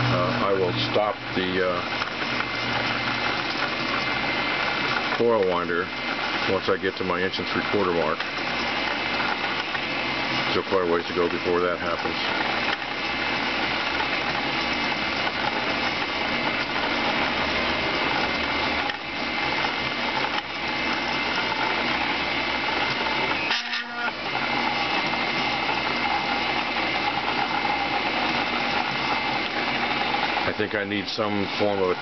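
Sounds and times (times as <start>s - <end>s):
coil winder stepper motors whining: 0.0s - 32.0s.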